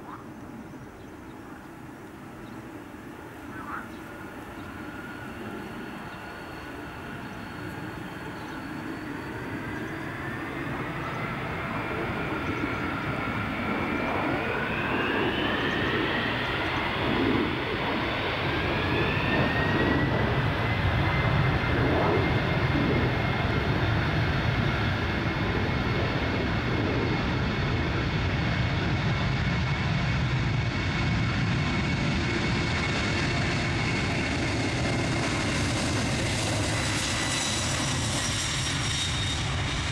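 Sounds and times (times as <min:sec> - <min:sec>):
jet engines spooling up: 0:03.4 - 0:39.9.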